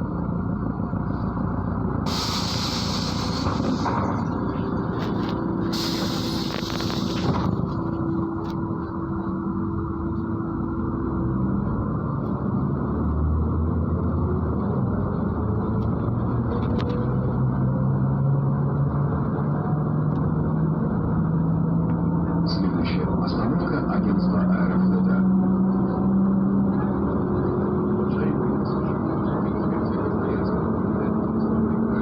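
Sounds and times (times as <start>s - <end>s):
bus diesel engine drone: 0.0s - 32.0s.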